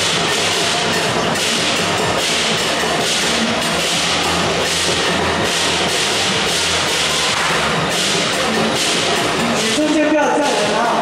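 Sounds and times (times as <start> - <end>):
crashing cymbals: 0.0 - 11.0
drums: 0.0 - 11.0.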